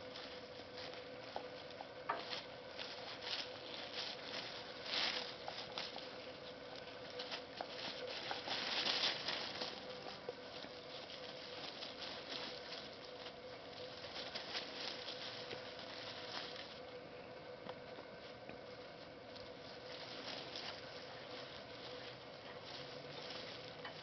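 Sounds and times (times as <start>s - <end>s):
dry leaves crackling under paws: 0.0s - 24.0s.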